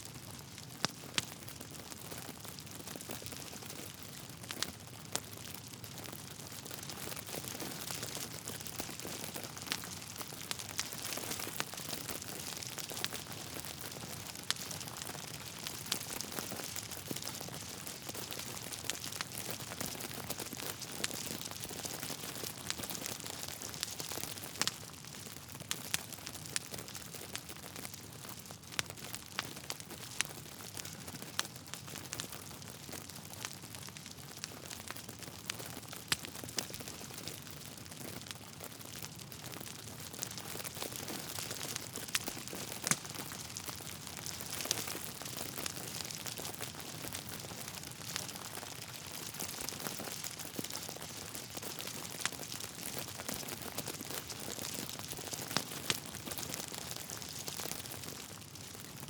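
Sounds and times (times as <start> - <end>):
logs crackling and popping: 0.2 - 59.0.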